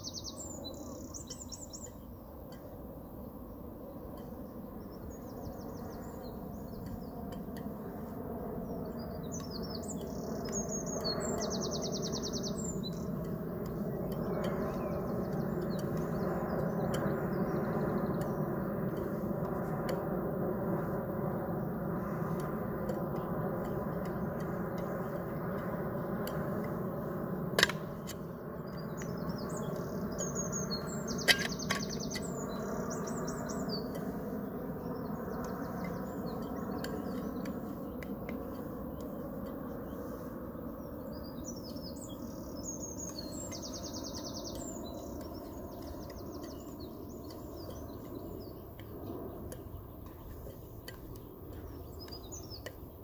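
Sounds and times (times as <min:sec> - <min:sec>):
small birds trilling: 0:00.0 - 0:53.0.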